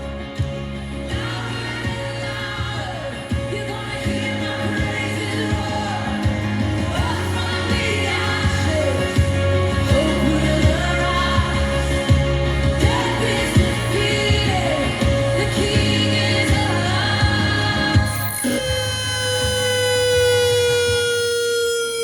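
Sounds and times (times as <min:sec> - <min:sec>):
pop song with singing: 0:00.0 - 0:22.0
steady tone: 0:00.0 - 0:22.0.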